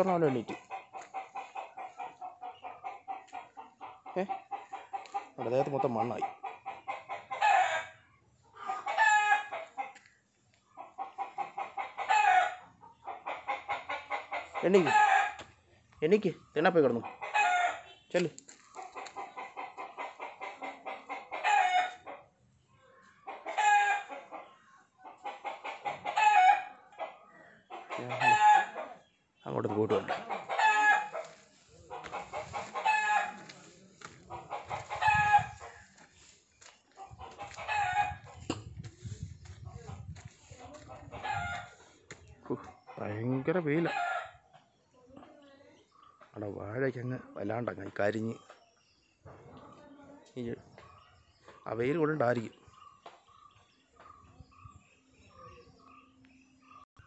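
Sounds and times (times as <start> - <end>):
chicken cackling: 0.0 - 46.4.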